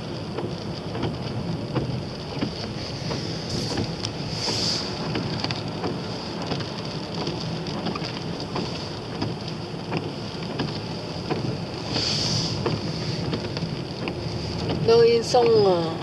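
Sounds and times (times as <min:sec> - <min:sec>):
car engine and tyre hum: 0:00.0 - 0:16.0
hiss of wet tyres and wind: 0:00.0 - 0:16.0
rain ticking on windscreen: 0:00.0 - 0:16.0.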